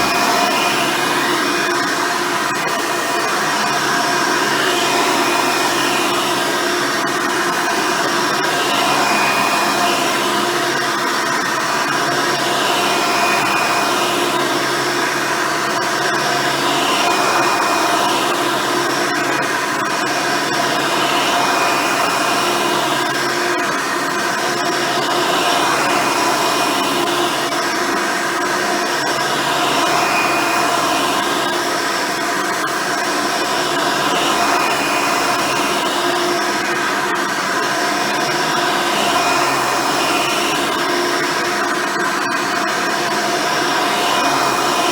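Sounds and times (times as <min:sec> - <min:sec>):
upright vacuum cleaner running: 0:00.0 - 0:44.9.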